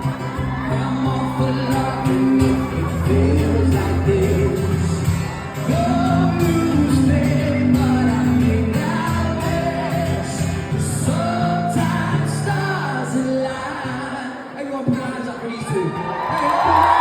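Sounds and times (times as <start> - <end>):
strummed acoustic guitar: 0.0 - 15.3.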